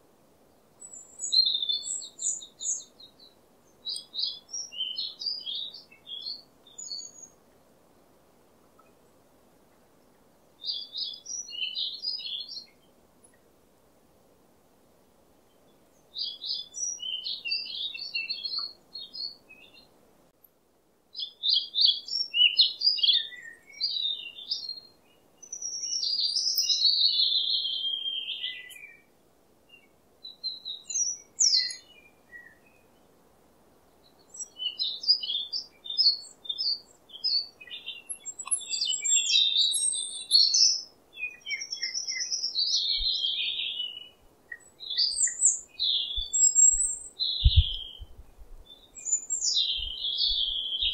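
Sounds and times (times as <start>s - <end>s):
songbird singing chirps and trills: 0.0s - 50.9s.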